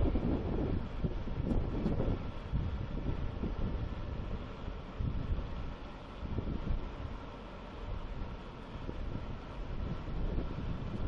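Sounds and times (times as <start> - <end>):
tracked vehicle rumbling over sand: 0.0 - 11.0
wind buffeting microphone: 0.0 - 11.0.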